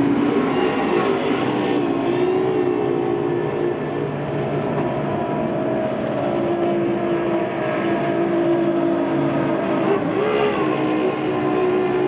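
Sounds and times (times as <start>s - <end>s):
powerboat engines passing: 0.0s - 12.0s.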